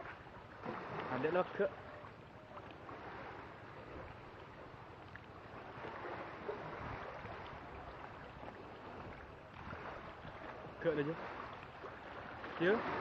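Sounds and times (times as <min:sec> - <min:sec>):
rushing water: 0:00.0 - 0:13.0
wind: 0:00.0 - 0:13.0.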